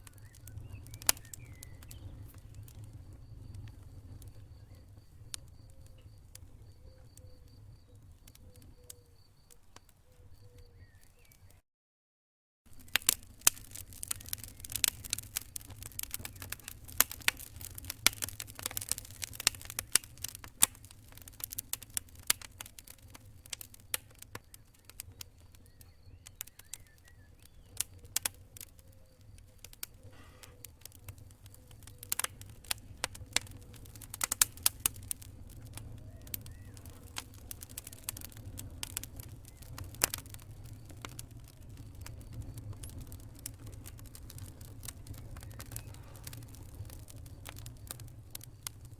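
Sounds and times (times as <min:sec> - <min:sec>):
low fire rumble: 0:00.0 - 0:11.5, 0:12.7 - 0:48.9
campfire snapping: 0:00.0 - 0:11.6, 0:12.7 - 0:48.9.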